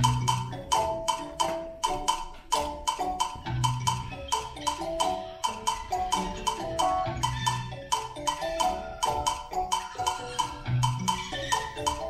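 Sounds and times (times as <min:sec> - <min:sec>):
dance music over sound system: 0:00.0 - 0:01.0, 0:03.3 - 0:12.0.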